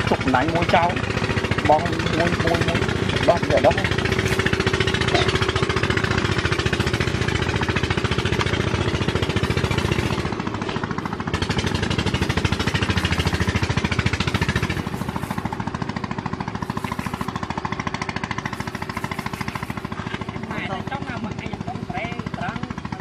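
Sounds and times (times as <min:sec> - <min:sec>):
small engine knocking: 0:00.0 - 0:23.0.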